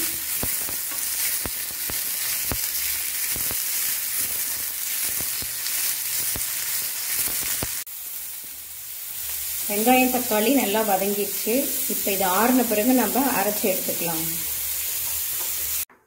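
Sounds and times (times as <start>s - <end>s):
onions sizzling in hot oil: 0.0s - 15.9s.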